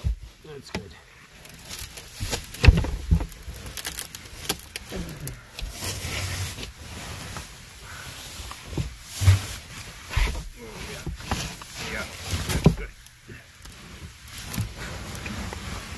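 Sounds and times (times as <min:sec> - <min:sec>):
knocks and thumps of crawling: 0:00.0 - 0:07.5, 0:08.3 - 0:15.9
plastic suit rustling: 0:00.0 - 0:15.9.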